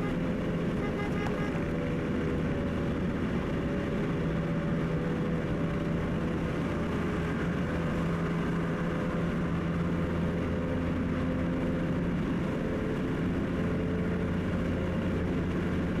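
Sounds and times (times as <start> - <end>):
car engine humming: 0.0 - 16.0
road and tyre noise: 0.0 - 16.0.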